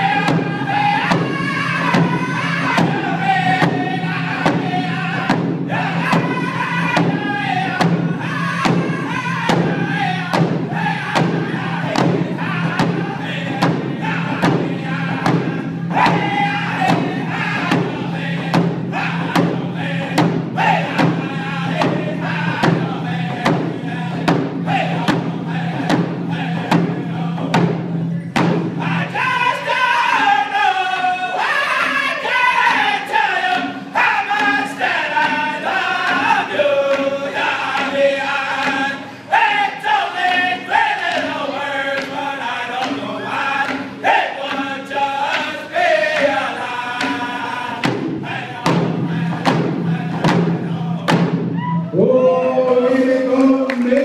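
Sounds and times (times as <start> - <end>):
men singing in unison: 0.0 - 27.8, 28.4 - 54.0
frame hand drums beating: 0.0 - 54.0.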